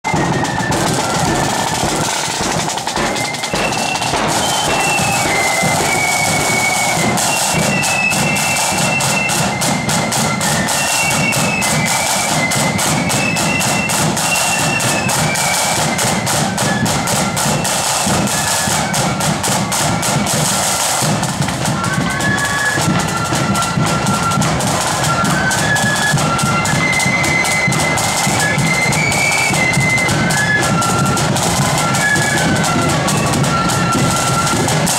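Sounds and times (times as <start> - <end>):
flutes playing high melody: 0.0 - 34.9
side drum rolls and beats: 0.0 - 34.9.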